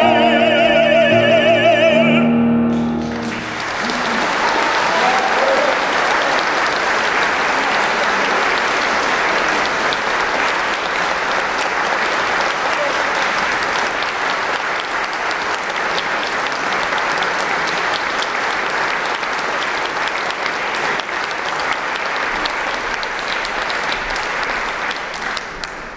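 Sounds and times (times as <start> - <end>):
audience clapping: 2.7 - 25.9.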